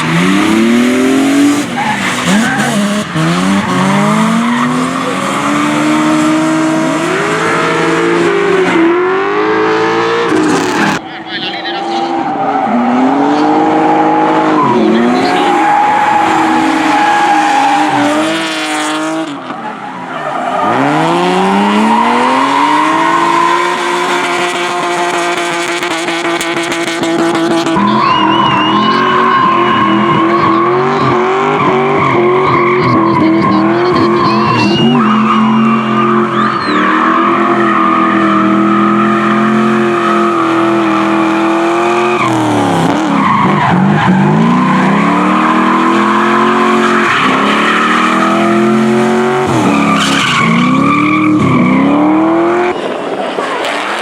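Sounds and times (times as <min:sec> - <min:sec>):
car engines at high revs: 0:00.0 - 0:11.1, 0:11.7 - 0:54.0
tyres squealing and skidding: 0:00.0 - 0:25.5, 0:26.1 - 0:54.0.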